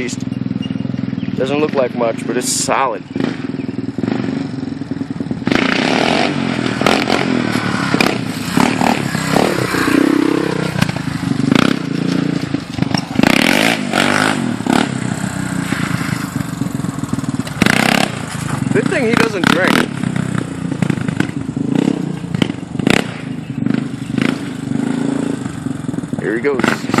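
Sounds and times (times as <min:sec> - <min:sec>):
quad engine revving: 0:00.0 - 0:27.0.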